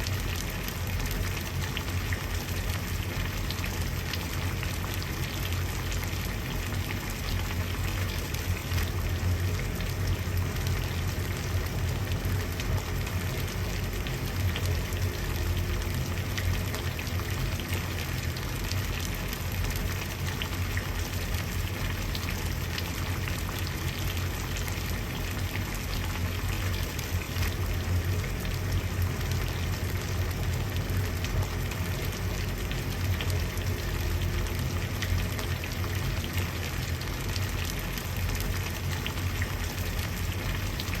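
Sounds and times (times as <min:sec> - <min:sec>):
water boiling: 0:00.0 - 0:41.0.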